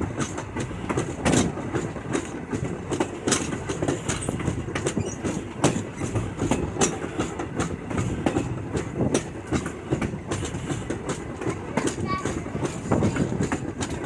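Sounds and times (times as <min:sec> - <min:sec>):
railroad car rattling: 0:00.0 - 0:14.0
train wheels rumbling on rails: 0:00.0 - 0:14.0
wheels clicking over rail joints: 0:00.0 - 0:14.0.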